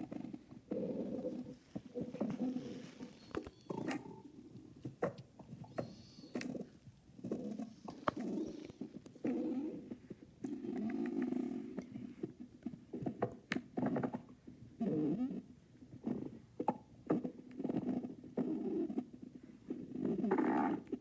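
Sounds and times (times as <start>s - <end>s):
stomach growling: 0.0s - 21.0s.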